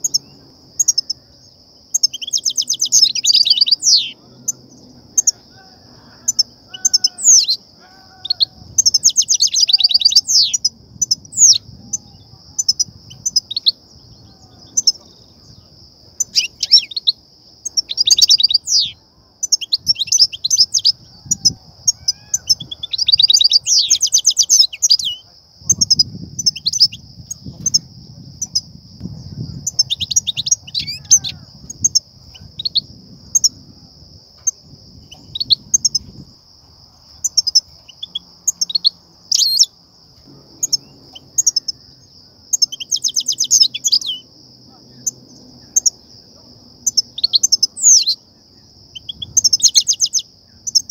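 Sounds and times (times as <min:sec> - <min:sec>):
goldfinches twittering: 0:00.0 - 0:28.7, 0:29.3 - 0:33.7, 0:34.4 - 0:36.1, 0:37.1 - 0:39.7, 0:40.4 - 0:50.9
high-pitched hiss: 0:00.0 - 0:50.9.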